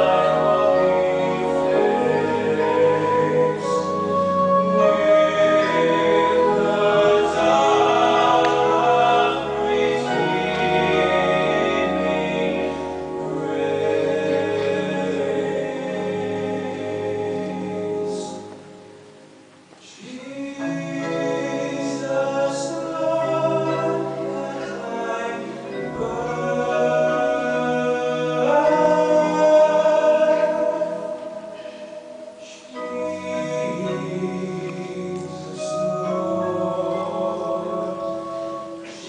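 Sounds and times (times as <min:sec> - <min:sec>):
choir singing a hymn: 0:00.0 - 0:18.8, 0:20.0 - 0:39.0.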